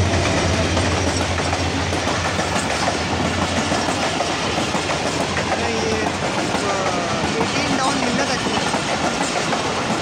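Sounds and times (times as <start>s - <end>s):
diesel locomotive engine drone: 0.0s - 10.0s
wheel and track noise: 0.0s - 10.0s.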